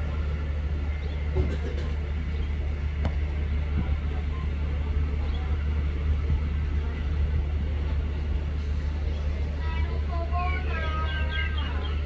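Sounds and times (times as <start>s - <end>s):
train hum and rumble: 0.0s - 12.0s.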